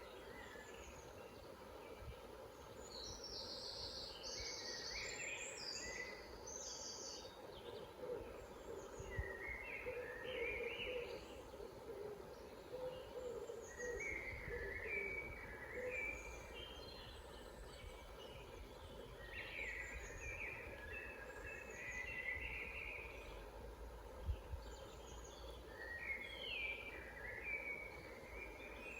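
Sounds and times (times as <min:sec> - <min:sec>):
forest birds singing: 0:00.0 - 0:28.9.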